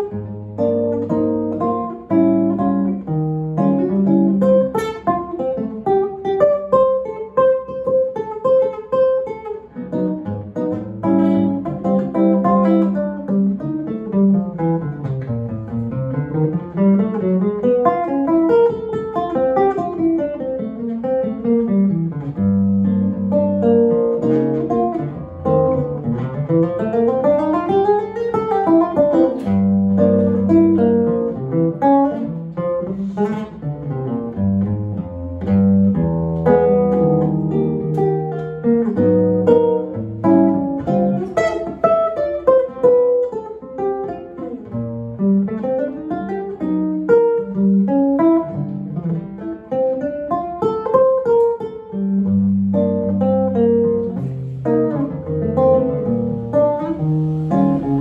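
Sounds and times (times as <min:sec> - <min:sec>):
nylon-string guitar jazz solo: 0:00.0 - 0:58.0.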